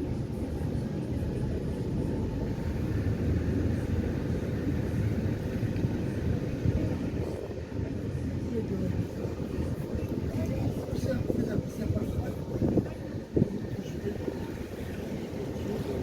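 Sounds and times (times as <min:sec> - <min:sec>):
ferry engine low rumble: 0:00.0 - 0:16.0.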